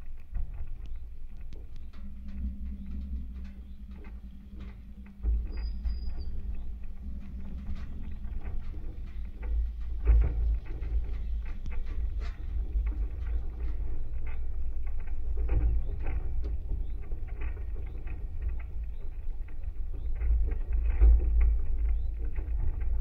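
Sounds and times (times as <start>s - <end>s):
low rumble of wooden pole: 0.0s - 23.0s.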